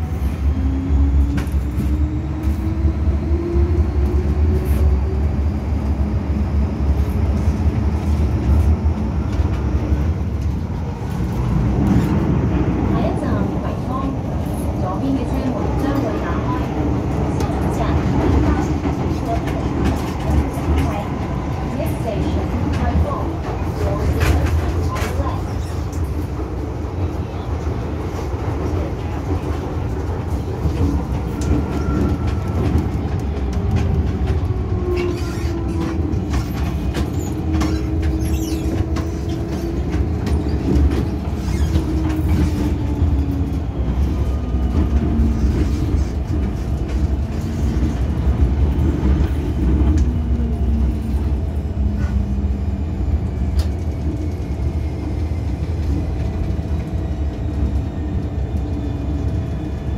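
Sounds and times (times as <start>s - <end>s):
low rumble of wheels on rail: 0.0s - 59.9s.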